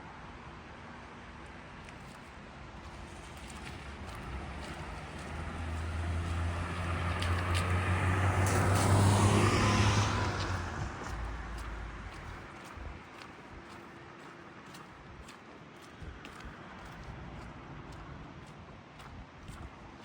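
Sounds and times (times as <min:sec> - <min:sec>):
car engine hum: 0:02.4 - 0:20.0.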